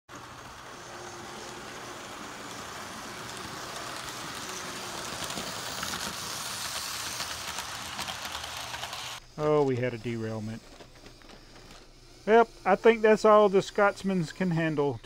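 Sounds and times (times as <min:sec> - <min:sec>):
model train running on rails: 0:00.1 - 0:15.0.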